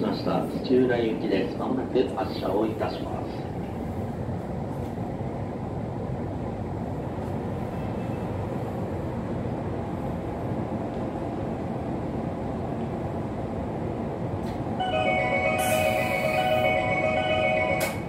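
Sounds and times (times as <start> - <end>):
train car low hum: 0.0 - 18.0.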